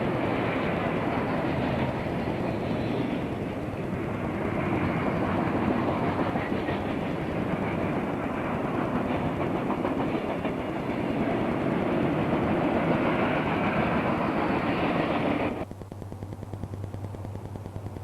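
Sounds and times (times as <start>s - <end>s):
low hum with rapid clatter: 0.0s - 18.0s
train wheels rumbling on rails: 0.0s - 18.0s.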